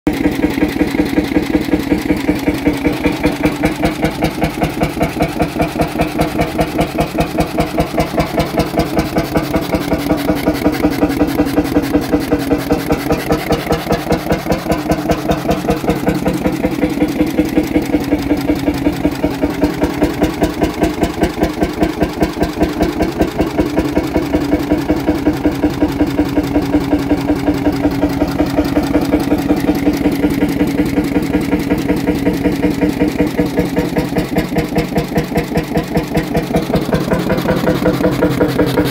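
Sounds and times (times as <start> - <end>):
engine running with even beat: 0.1 - 38.9.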